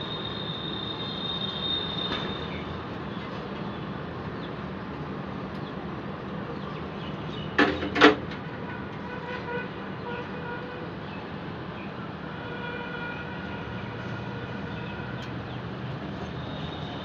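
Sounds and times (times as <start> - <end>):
outdoor traffic noise: 0.0 - 17.0.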